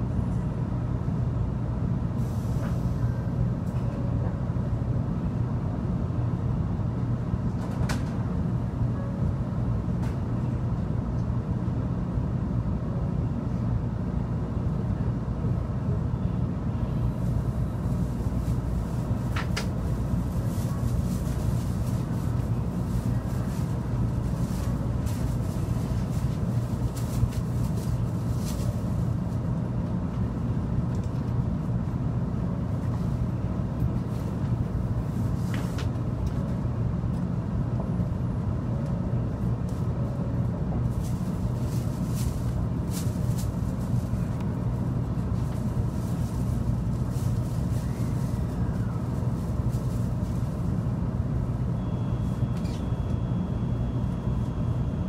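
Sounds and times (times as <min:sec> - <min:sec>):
low hum inside train car: 0:00.0 - 0:55.0.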